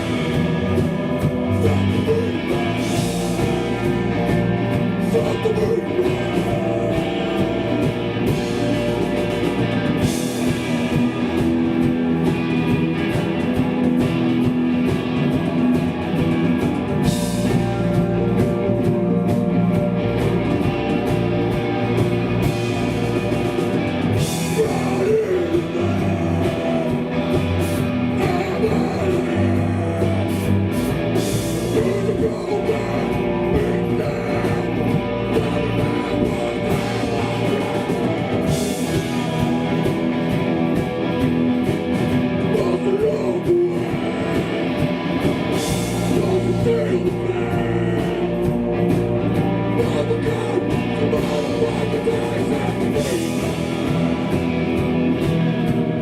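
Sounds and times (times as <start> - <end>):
person singing: 0.0 - 12.5, 16.8 - 55.2
loud electric guitar: 0.0 - 56.0.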